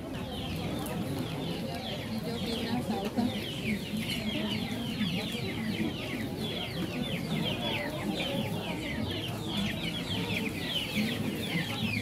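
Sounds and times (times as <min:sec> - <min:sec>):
chicks peeping: 0:00.0 - 0:12.0
murmur of voices: 0:00.0 - 0:12.0.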